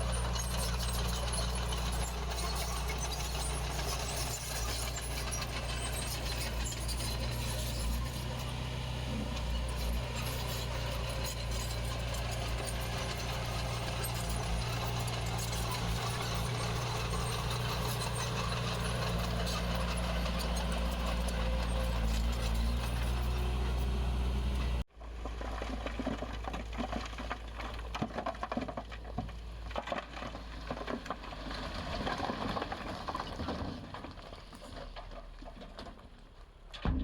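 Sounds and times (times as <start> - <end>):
diesel engine running: 0.0 - 34.8
machinery and stone clanking: 0.0 - 36.0.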